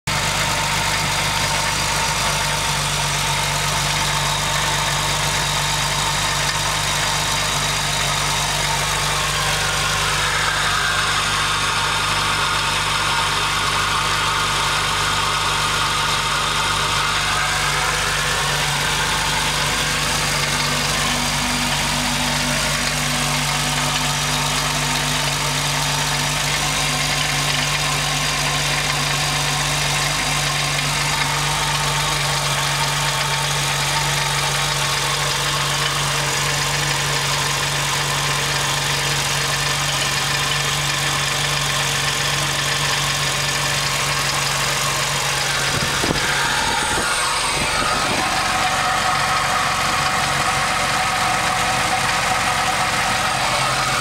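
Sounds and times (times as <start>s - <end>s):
engine idling: 0.0s - 54.0s
engine ticking: 0.0s - 54.0s.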